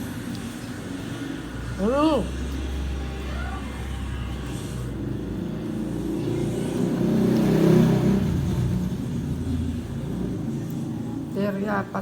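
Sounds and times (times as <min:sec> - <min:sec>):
motor vehicle rumble: 0:00.7 - 0:12.0.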